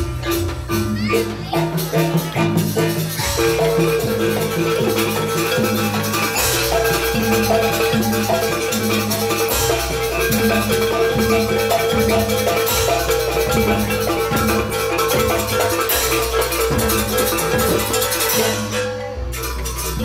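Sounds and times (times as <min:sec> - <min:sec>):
struck metal-keyed percussion melody: 0:00.0 - 0:20.0.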